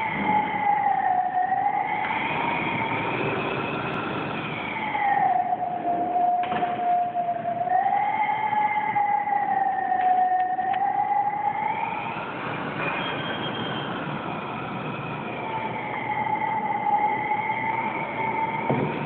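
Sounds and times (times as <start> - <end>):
wind whistling through building: 0.0 - 19.0.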